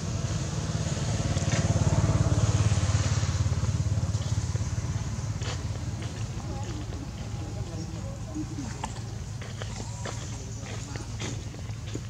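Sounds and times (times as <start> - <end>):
engine pulsing rumble: 0.0 - 12.0.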